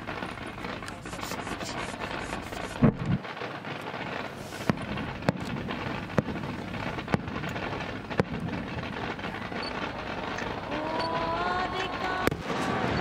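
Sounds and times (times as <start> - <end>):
firework cracks: 0.0 - 13.0
steady hiss: 0.0 - 13.0.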